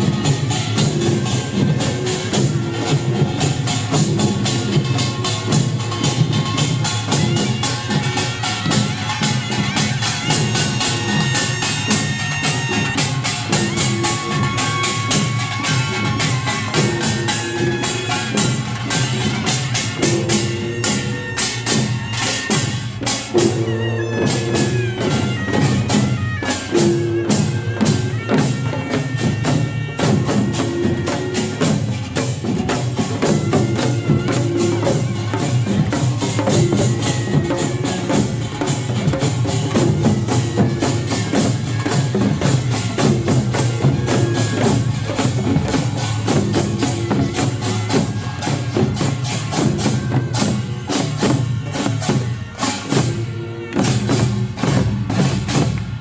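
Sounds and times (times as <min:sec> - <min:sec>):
wavering reed horn melody: 0:00.0 - 0:55.6
drums playing fast rhythm: 0:00.0 - 0:56.0
small gongs playing fast rhythm: 0:00.0 - 0:56.0.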